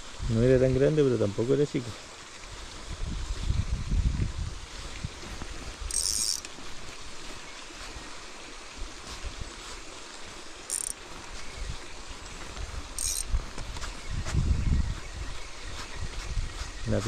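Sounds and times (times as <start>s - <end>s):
river water flowing: 0.0s - 14.1s.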